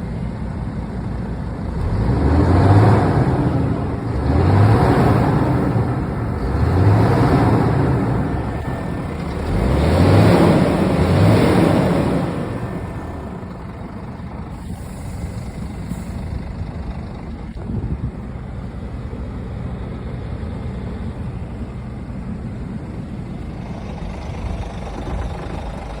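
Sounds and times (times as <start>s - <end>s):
truck diesel engine revving: 1.6s - 26.0s.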